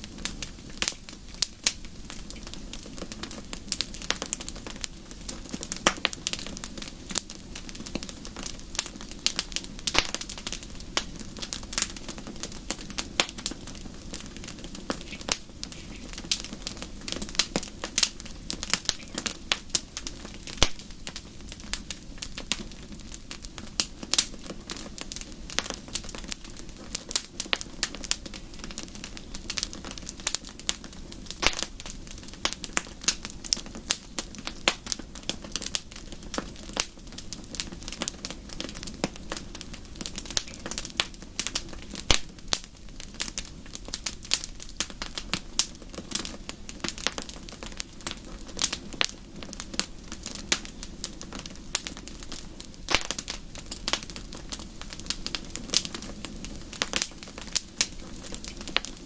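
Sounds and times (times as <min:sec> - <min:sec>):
low rushing of flames: 0:00.0 - 0:59.0
wood fire crackling: 0:00.0 - 0:59.0.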